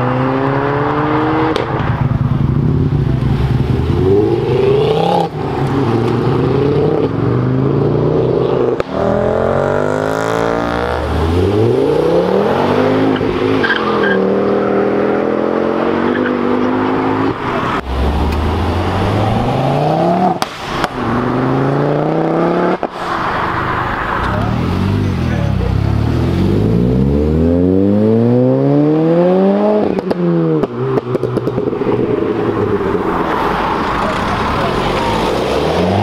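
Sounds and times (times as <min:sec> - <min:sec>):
car engines accelerating hard: 0:00.0 - 0:36.0.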